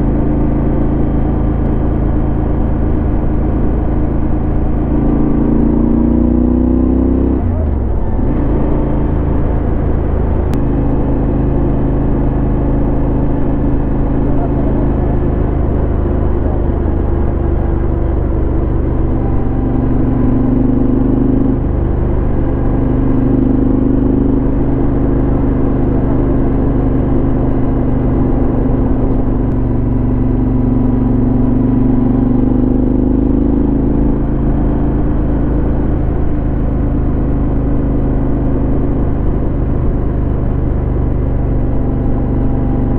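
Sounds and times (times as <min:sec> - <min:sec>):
motorcycle engine exhaust note: 0:00.0 - 0:42.9.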